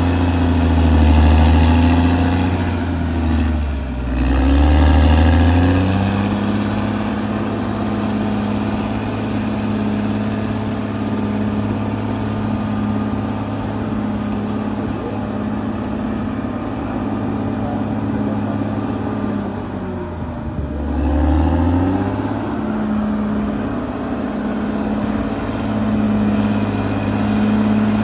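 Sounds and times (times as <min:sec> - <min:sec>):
bulldozer diesel engine under load: 0:00.0 - 0:28.0.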